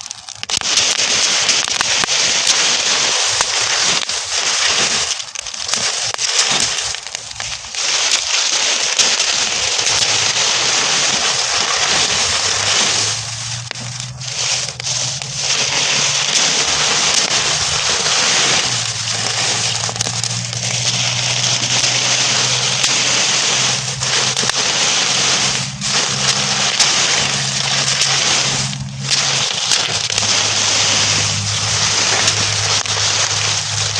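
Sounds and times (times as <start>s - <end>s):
burning straw crackling: 0.0s - 33.9s.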